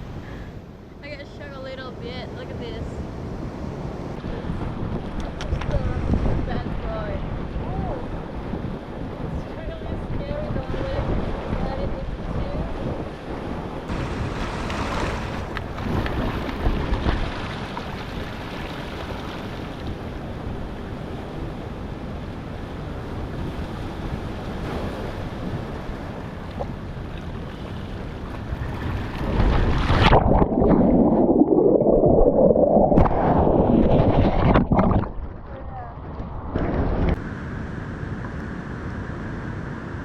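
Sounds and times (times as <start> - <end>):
ocean surf breaking: 0.0 - 35.6
wind buffeting microphone: 0.0 - 40.0.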